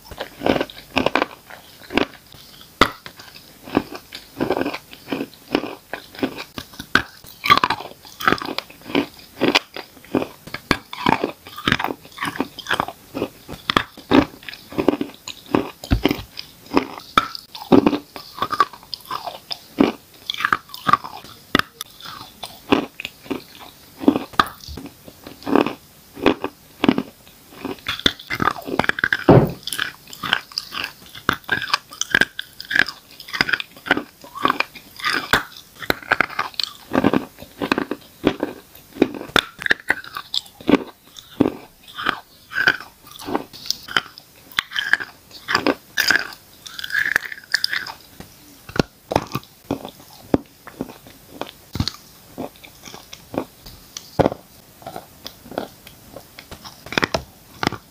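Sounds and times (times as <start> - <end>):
chewing crunchy chalk: 0.0 - 57.9.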